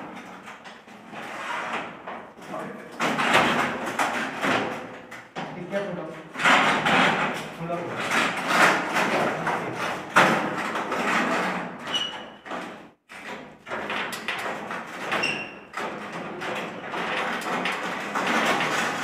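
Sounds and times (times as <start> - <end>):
metal rolling shutter thumping and scraping: 0.0 - 19.0.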